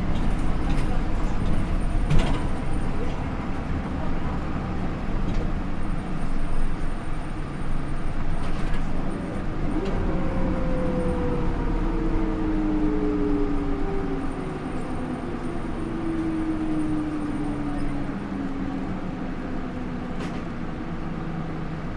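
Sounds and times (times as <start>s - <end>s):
bus engine running: 0.0s - 21.9s
road noise: 0.0s - 21.9s.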